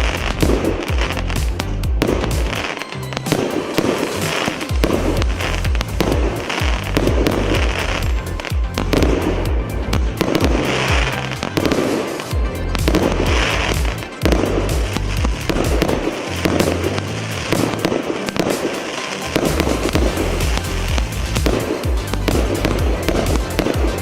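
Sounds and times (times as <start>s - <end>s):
fireworks shots and bursts: 0.0s - 24.0s
music with pounding bass: 0.0s - 24.0s.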